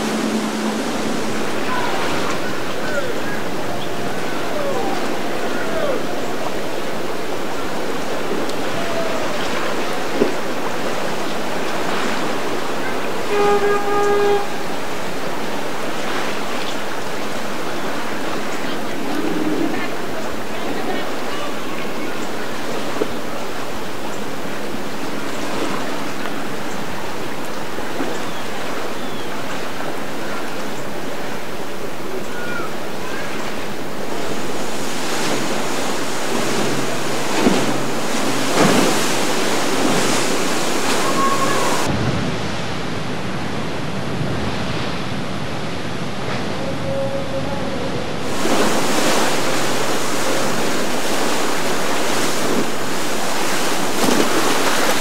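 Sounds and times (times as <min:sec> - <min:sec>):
waves and surf: 0:00.0 - 0:55.0.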